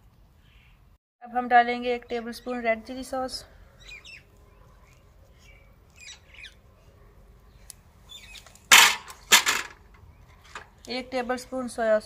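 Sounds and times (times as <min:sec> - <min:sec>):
small birds chirping: 0:00.4 - 0:01.0, 0:02.0 - 0:09.3, 0:09.9 - 0:11.8.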